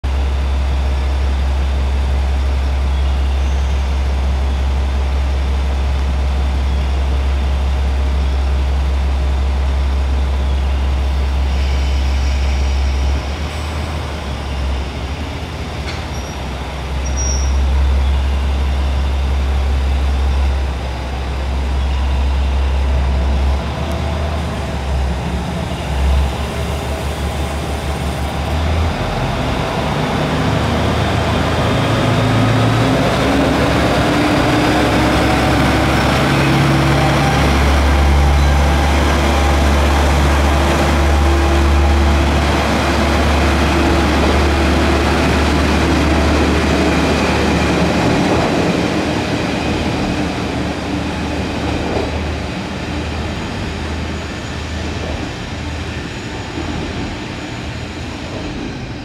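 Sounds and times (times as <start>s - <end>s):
diesel railcar engine idling: 0.0s - 59.0s.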